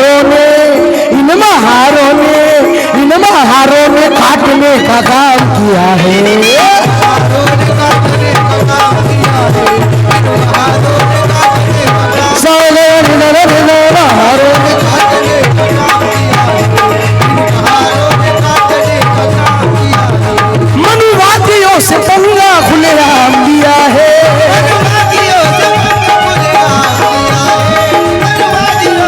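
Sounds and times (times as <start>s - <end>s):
fast tabla rhythm: 0.0s - 29.0s.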